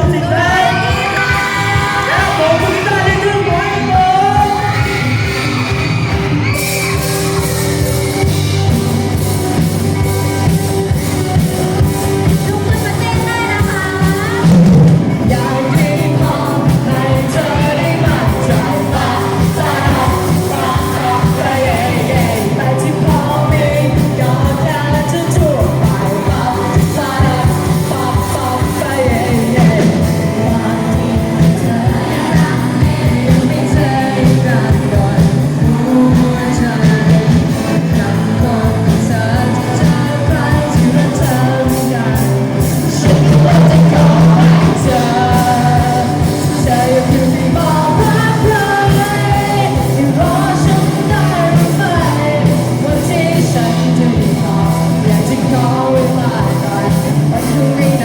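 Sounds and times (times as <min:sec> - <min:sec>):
pop-rock song with singing: 0:00.0 - 0:58.0.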